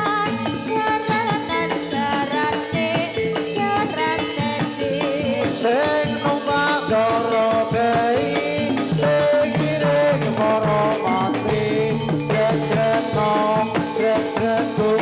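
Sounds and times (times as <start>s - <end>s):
person singing: 0.0s - 15.0s
ringing metallophone notes: 0.0s - 15.0s.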